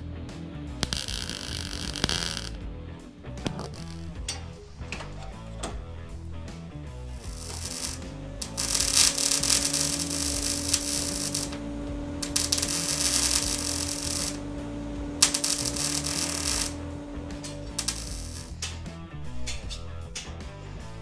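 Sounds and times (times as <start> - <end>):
mig welder crackling: 0.7 - 20.3.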